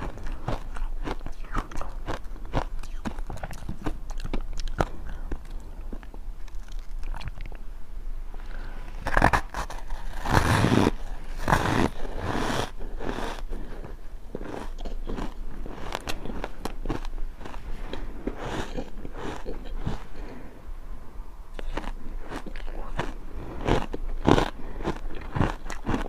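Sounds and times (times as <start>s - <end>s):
ice being chewed: 0.0s - 7.6s, 8.4s - 20.4s, 21.6s - 26.0s.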